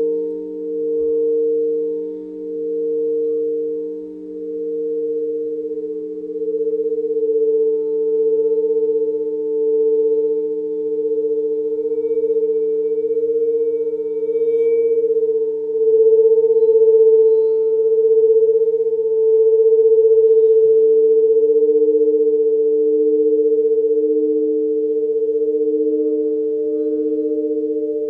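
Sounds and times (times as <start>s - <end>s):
layered pure tone drone: 0.0s - 28.0s.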